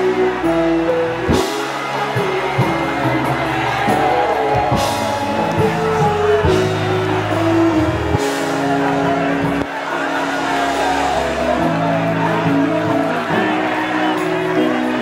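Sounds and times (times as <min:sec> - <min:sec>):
band playing held chords: 0:00.0 - 0:15.0
bass line: 0:00.0 - 0:15.0.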